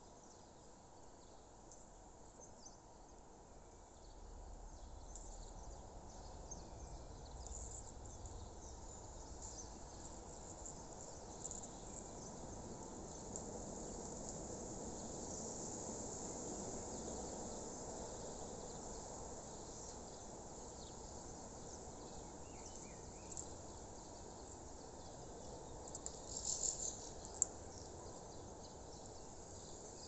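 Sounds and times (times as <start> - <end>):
crickets chirping: 4.1 - 30.0.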